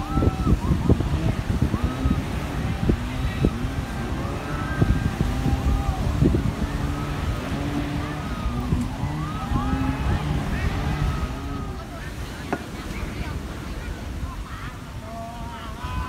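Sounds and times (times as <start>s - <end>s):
faint voices of people: 0.0s - 16.0s
waves breaking on beach: 0.0s - 16.0s
wind buffeting microphone: 0.0s - 16.0s.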